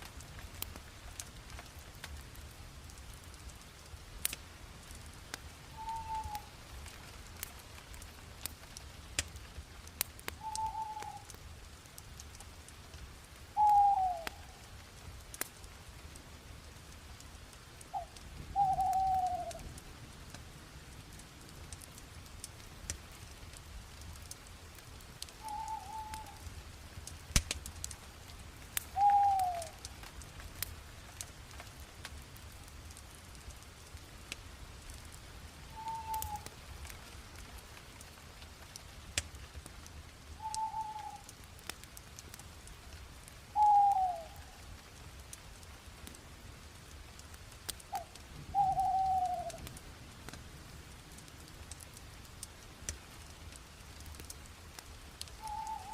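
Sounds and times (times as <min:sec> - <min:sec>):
bonfire crackling and popping: 0:00.0 - 0:55.9.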